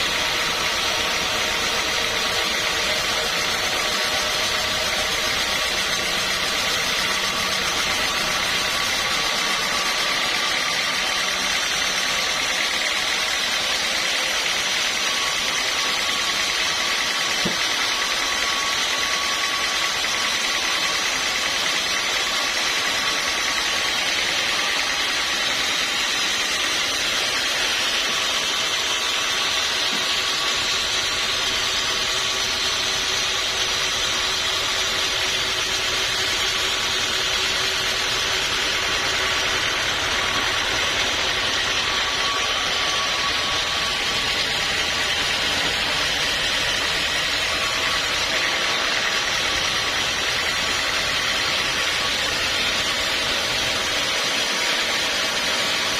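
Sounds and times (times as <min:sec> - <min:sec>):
machinery running: 0:00.0 - 0:55.9.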